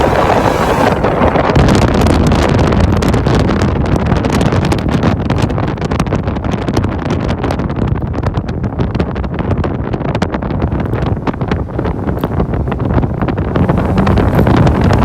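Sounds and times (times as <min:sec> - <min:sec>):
loud car exhaust running: 0:00.0 - 0:15.0.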